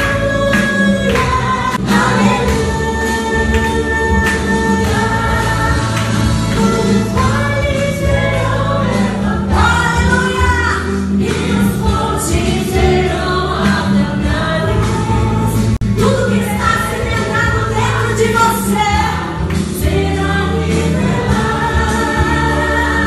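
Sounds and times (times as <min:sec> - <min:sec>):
choir singing gospel song: 0:00.0 - 0:23.0
instrumental accompaniment with bass: 0:00.0 - 0:23.0.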